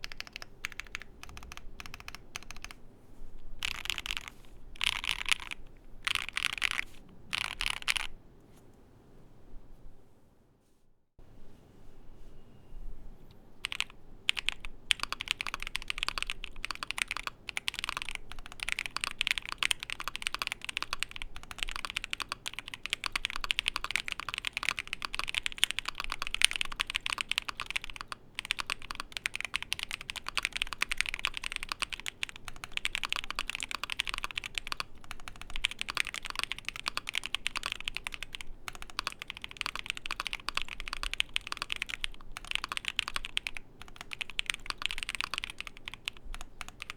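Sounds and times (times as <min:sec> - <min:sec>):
fast typing on mechanical keyboard: 0:00.0 - 0:02.8, 0:03.6 - 0:08.1, 0:13.6 - 0:46.9.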